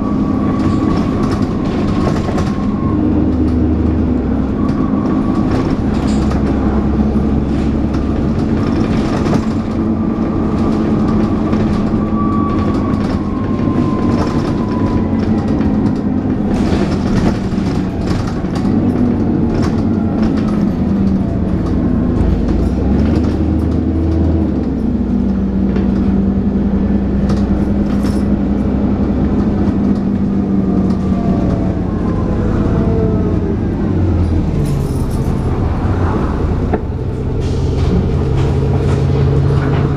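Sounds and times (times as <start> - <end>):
bus engine under way: 0.0 - 39.9.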